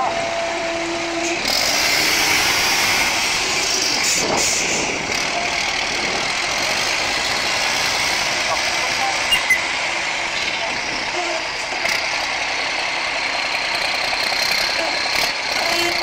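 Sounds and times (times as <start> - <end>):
truck diesel engine under load: 0.0 - 16.0.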